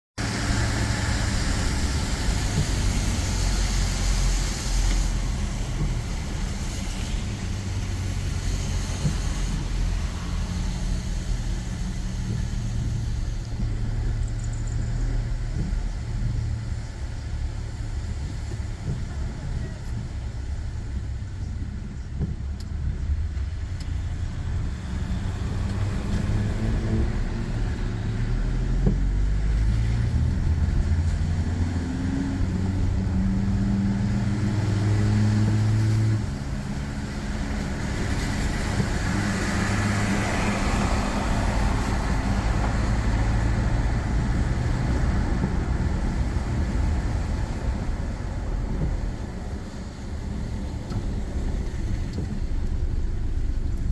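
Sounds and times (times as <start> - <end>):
road rumble: 0.2 - 53.9
vehicle engine accelerating through gears: 0.2 - 53.9.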